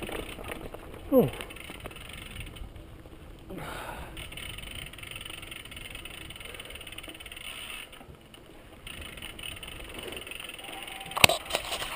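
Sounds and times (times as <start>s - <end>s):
bike rattling: 0.0s - 11.9s
bike tyres on dirt: 0.0s - 11.9s
wind rumbling on microphone: 0.0s - 11.9s.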